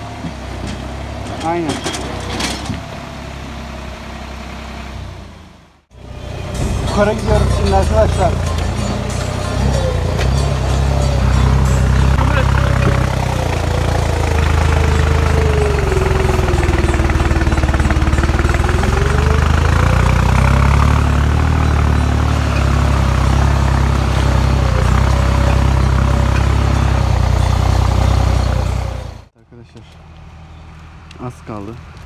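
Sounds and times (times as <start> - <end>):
tractor engine running hard: 0.0 - 29.4.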